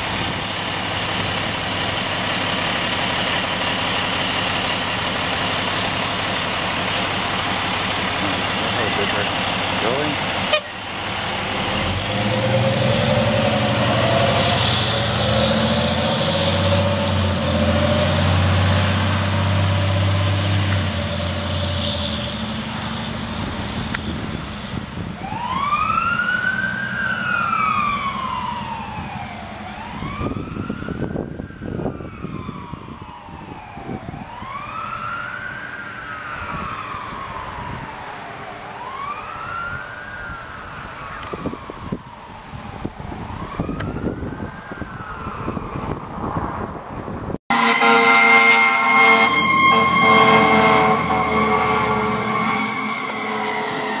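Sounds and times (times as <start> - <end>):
siren wailing: 0.0 - 20.3, 25.2 - 46.6, 47.5 - 54.0
diesel engine under load: 0.0 - 38.1, 38.9 - 54.0.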